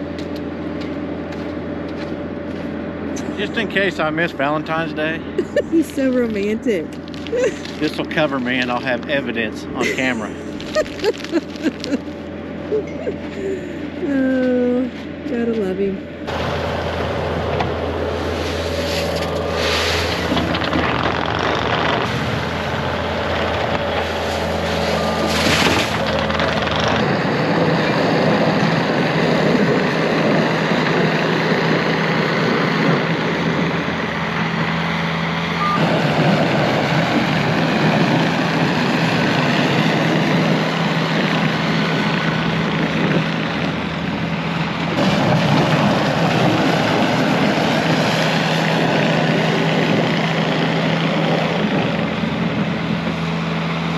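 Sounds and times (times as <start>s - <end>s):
loader engine running: 0.0s - 53.9s.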